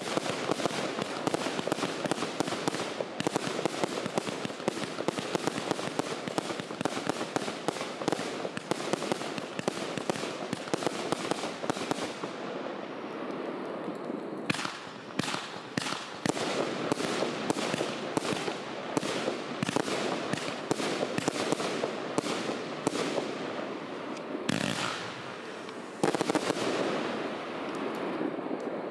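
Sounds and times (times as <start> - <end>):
firework sharp bangs: 0.0 - 12.4, 14.5 - 23.6, 24.5 - 28.3
firework crackling and popping: 0.0 - 28.9.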